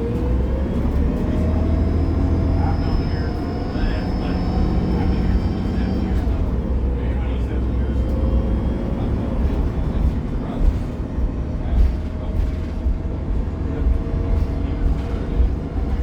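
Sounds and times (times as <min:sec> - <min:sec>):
bus engine deep rumble: 0:00.0 - 0:16.0.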